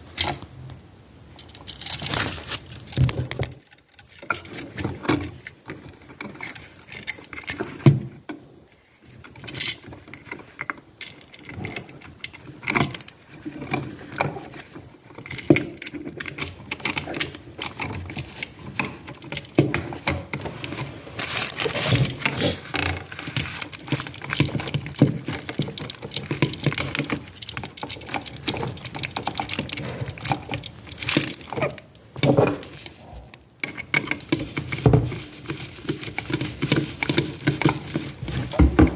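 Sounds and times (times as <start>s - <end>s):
clicking and rattling of wires: 0.1s - 38.9s.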